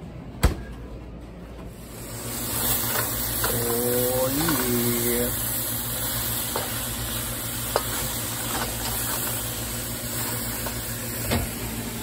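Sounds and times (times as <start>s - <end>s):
meat and mushrooms sizzling: 1.8s - 12.0s.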